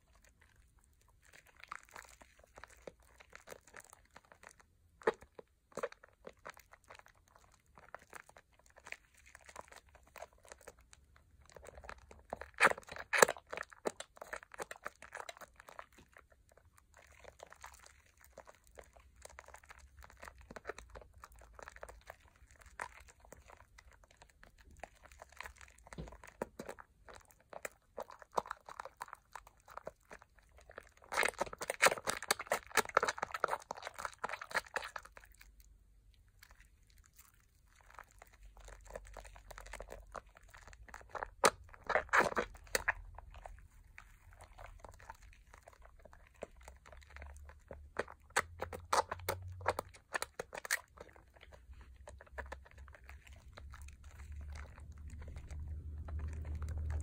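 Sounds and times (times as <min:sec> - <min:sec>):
squishy soap lather crackling: 0:00.0 - 0:57.0.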